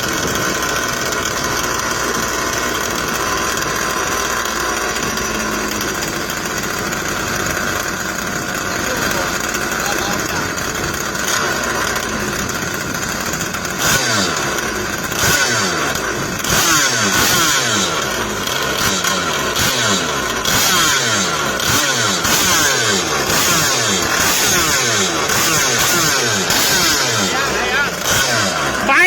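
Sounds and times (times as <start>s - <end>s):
two-stroke boat engine revving: 0.0s - 29.0s.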